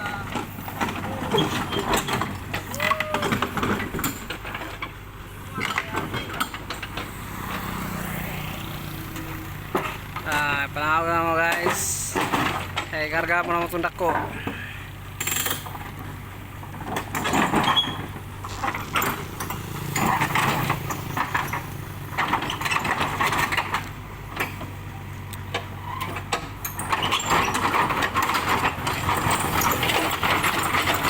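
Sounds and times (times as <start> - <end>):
diesel engine running: 0.0 - 31.0
knocks and rattling clatter: 0.1 - 31.0.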